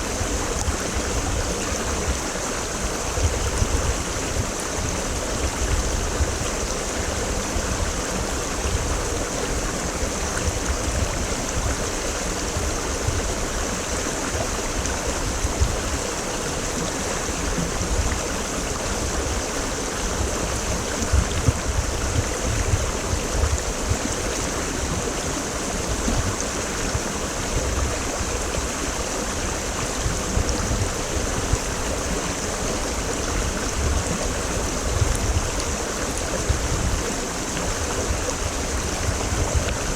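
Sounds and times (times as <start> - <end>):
deep rumble of water: 0.0 - 39.9
stream rushing over rocks: 0.0 - 39.9.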